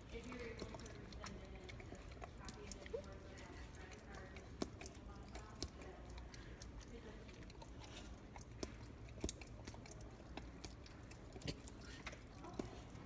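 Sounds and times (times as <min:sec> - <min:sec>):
dog licking and smacking mouth: 0:00.0 - 0:13.0.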